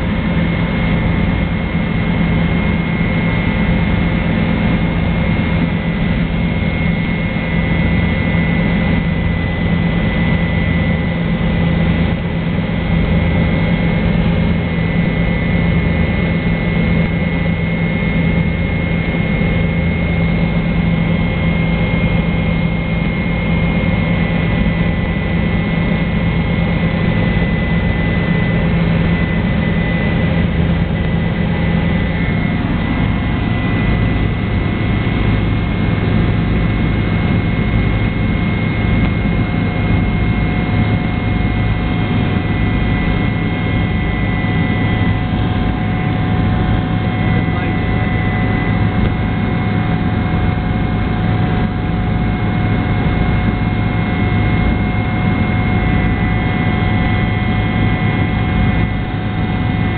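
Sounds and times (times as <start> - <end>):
helicopter engine and rotor noise: 0.0 - 59.9.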